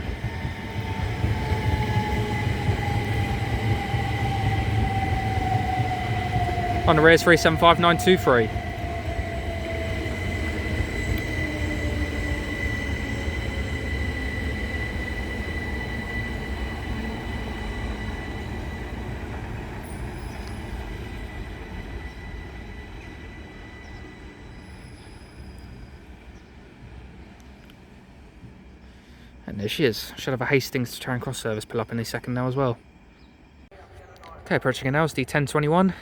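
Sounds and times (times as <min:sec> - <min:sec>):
train high whine: 0:00.0 - 0:36.0
train wheel rumble: 0:00.0 - 0:36.0.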